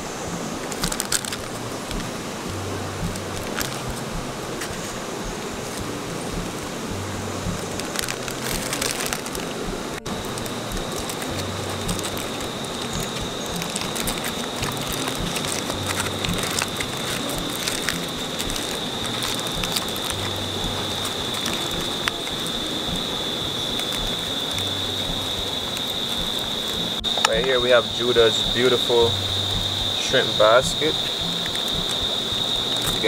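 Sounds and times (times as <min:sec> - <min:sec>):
cooking fire crackling: 0:00.0 - 0:33.0
quiet background music: 0:00.0 - 0:33.0
river water rushing: 0:00.0 - 0:33.0
thin high whine: 0:00.0 - 0:33.0.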